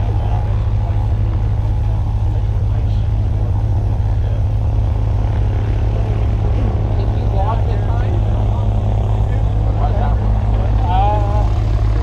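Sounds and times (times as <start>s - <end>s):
loud low engine drone: 0.0s - 12.0s.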